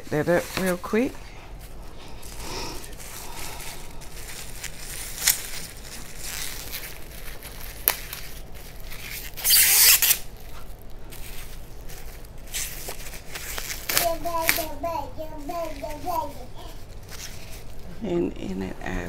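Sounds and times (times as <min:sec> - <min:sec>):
plastic tearing: 0:00.0 - 0:01.2, 0:02.2 - 0:18.0
plastic wrapper crinkling: 0:00.0 - 0:18.2.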